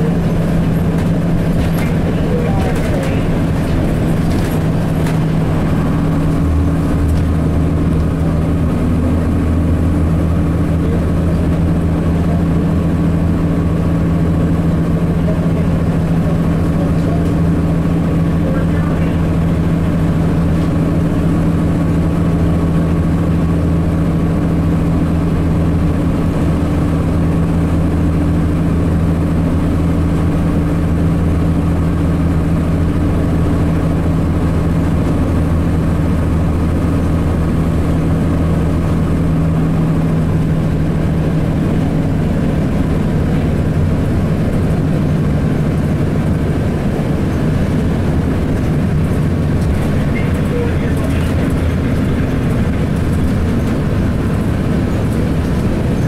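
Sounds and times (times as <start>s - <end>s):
bus diesel engine droning: 0.0s - 56.0s
road noise: 0.0s - 56.0s.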